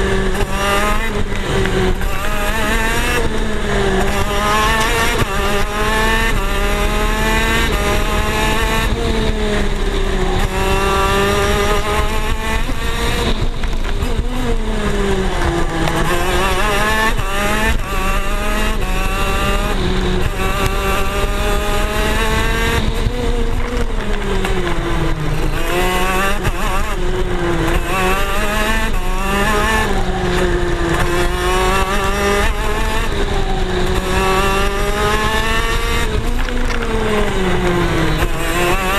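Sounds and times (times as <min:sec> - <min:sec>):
kart two-stroke engine revving: 0:00.0 - 0:38.9.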